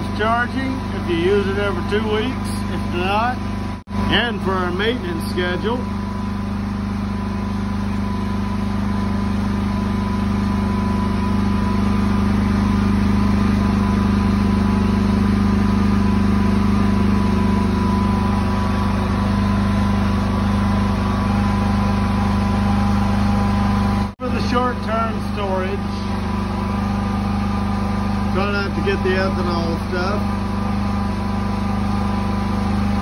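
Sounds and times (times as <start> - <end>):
generator running: 0.0 - 33.0.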